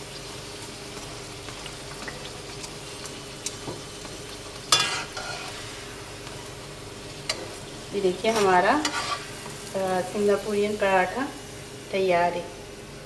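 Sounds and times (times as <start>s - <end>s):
oil sizzling in a wok: 0.0s - 13.0s.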